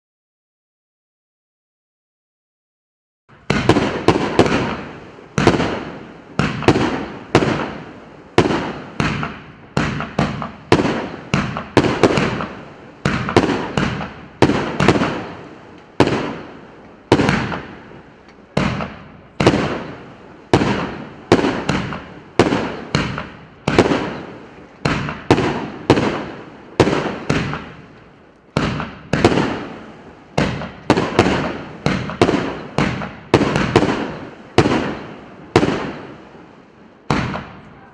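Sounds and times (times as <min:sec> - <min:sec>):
fireworks bangs: 0:03.3 - 0:37.9.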